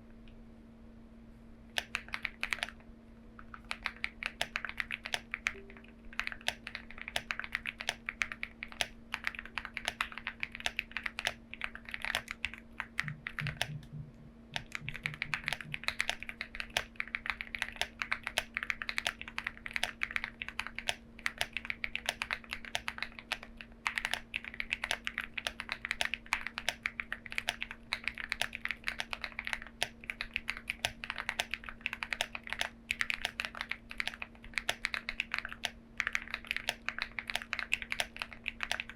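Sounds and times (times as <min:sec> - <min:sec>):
mechanical keyboard typing: 0:01.8 - 0:02.8, 0:03.4 - 0:13.9, 0:14.6 - 0:38.9.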